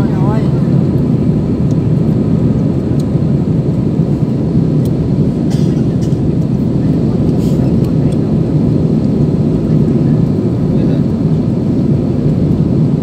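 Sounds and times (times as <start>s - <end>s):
jet engines at climb power: 0.0s - 13.0s.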